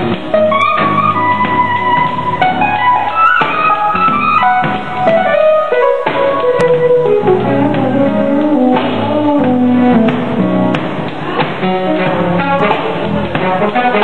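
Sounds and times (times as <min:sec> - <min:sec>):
gospel band music: 0:00.0 - 0:14.0.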